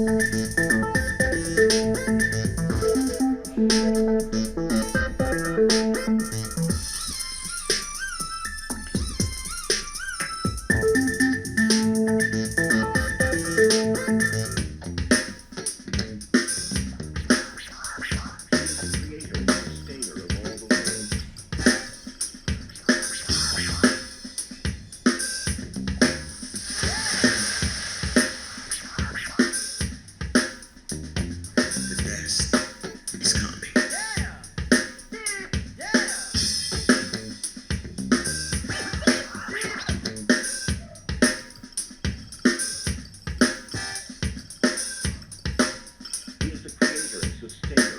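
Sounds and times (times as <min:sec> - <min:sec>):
music with drum-kit beat: 0:00.0 - 0:47.9.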